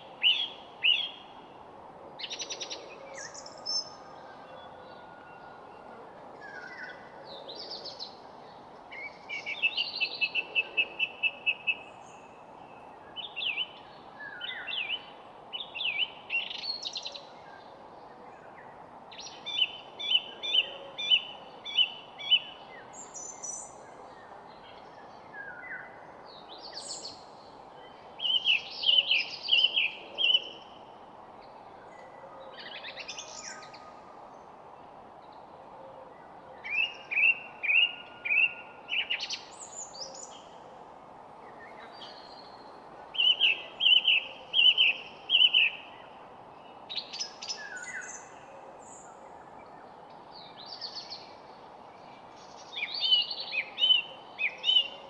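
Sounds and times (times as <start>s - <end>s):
songbirds singing: 0.0s - 1.6s, 2.2s - 55.0s
steady background hiss: 0.0s - 55.0s.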